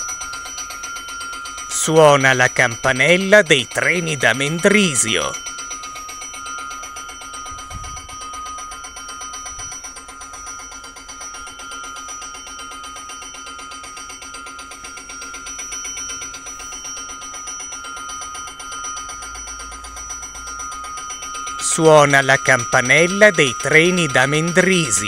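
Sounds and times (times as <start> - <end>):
electric warning bell ringing: 0.0 - 25.0.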